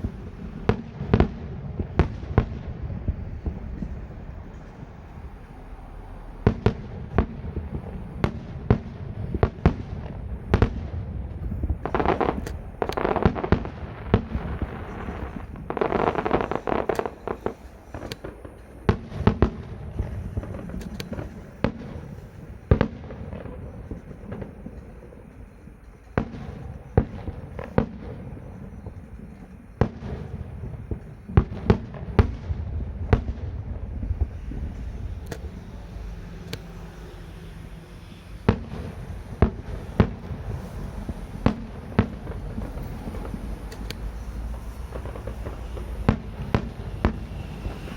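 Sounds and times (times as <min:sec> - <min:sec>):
fireworks bangs: 0:00.0 - 0:47.9
fireworks crackle: 0:00.0 - 0:47.9.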